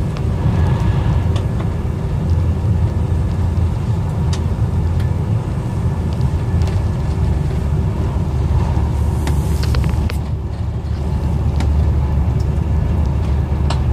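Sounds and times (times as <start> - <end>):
train low rumble: 0.0 - 13.9.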